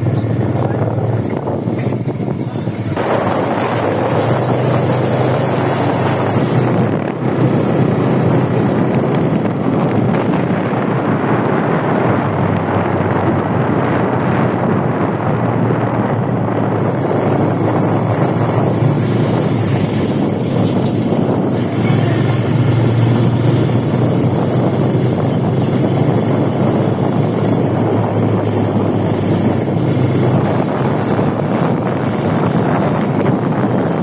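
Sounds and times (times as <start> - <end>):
low engine drone: 0.0 - 34.0
wind rushing over microphone: 0.0 - 34.0.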